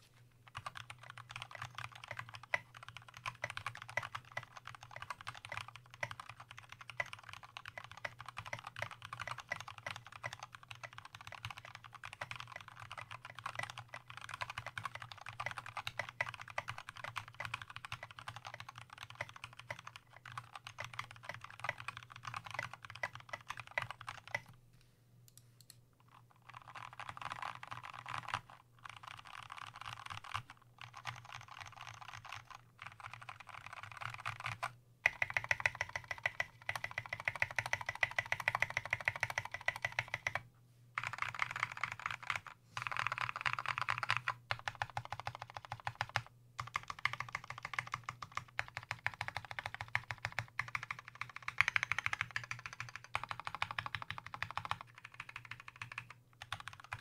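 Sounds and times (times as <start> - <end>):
fast mechanical keyboard typing: 0.5 - 24.6, 26.1 - 40.4, 41.0 - 57.0.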